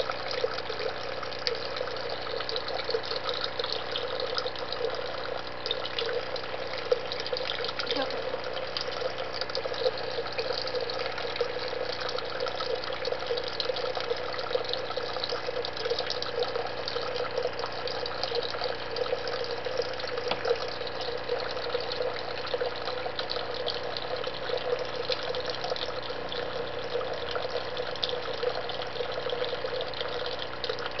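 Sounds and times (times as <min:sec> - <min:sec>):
water running and splashing: 0:00.0 - 0:31.0.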